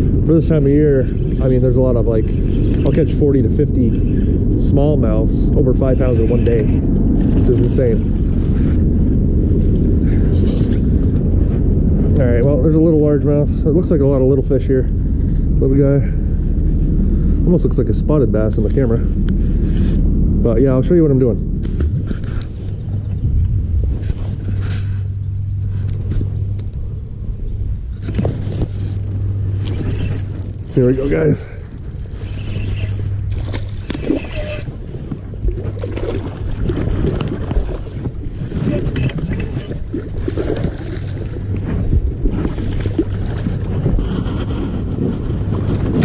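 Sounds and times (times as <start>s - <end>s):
boat motor humming: 0.0s - 46.0s
wind buffeting microphone: 0.0s - 46.0s.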